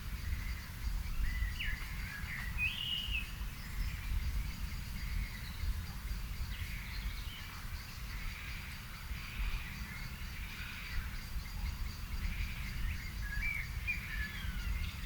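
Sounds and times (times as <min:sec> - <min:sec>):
birds calling and singing: 0:00.0 - 0:15.0.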